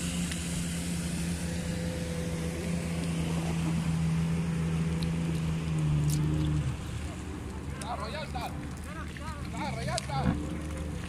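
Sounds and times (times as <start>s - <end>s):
watercraft engine running: 0.0s - 11.0s.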